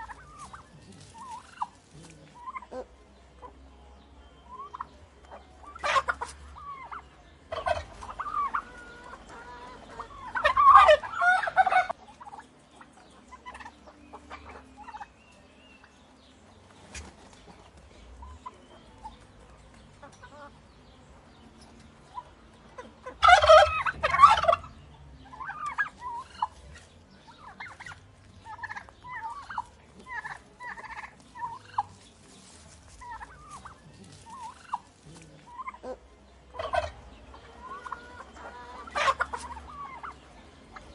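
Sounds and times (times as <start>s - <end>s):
turkey gobbling: 0.0s - 3.6s, 4.4s - 15.2s, 20.0s - 20.5s, 22.1s - 32.1s, 32.9s - 40.9s.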